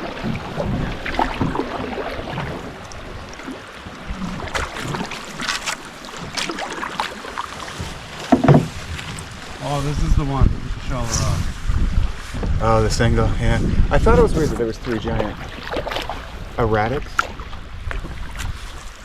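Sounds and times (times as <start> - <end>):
paddles splashing in water: 0.0 - 19.0.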